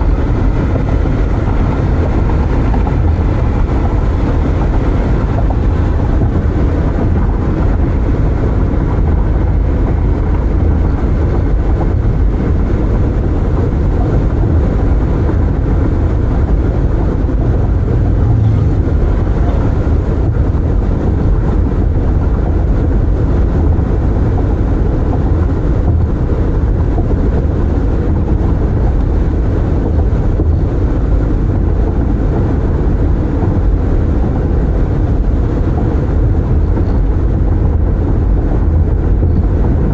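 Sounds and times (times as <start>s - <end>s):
car road rumble: 0.0s - 39.9s
wind noise through open windows: 0.0s - 39.9s.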